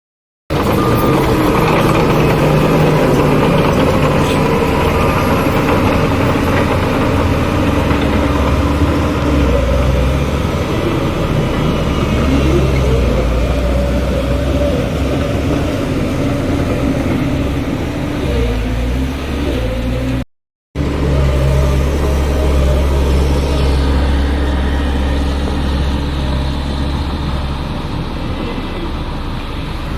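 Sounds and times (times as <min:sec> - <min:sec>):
engine revving up: 0:00.5 - 0:20.2, 0:20.8 - 0:29.9
heavy diesel engines running: 0:00.5 - 0:20.2, 0:20.8 - 0:29.9.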